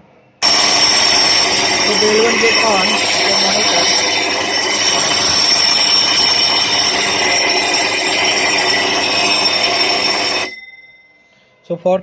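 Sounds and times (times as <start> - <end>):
electric bell ringing: 0.4 - 11.5.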